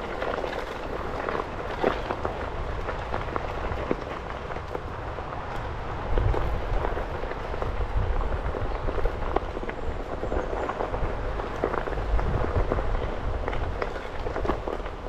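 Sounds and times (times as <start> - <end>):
tyre crunching over gravel: 0.0 - 15.0.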